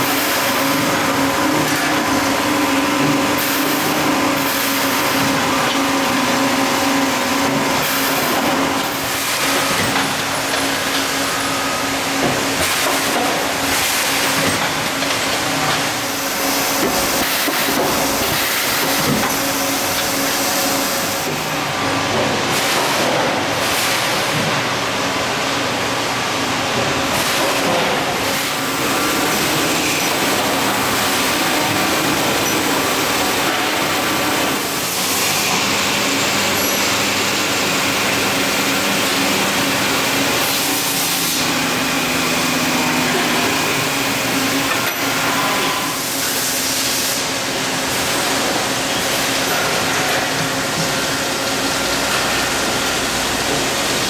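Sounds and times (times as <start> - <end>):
machines running with hiss: 0.0 - 54.0.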